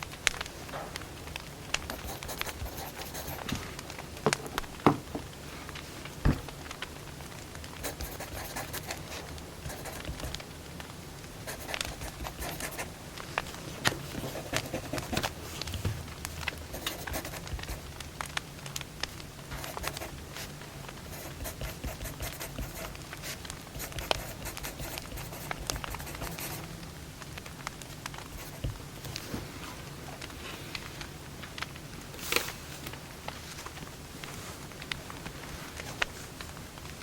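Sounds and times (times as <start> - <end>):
fire popping and snapping: 0.0 - 37.0
steady low hum: 0.0 - 37.0
wood fire crackling: 0.0 - 37.0.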